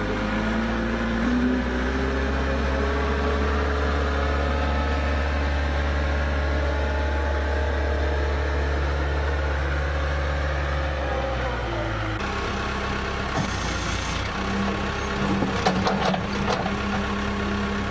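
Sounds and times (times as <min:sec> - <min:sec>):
backhoe engine running: 0:00.0 - 0:17.9.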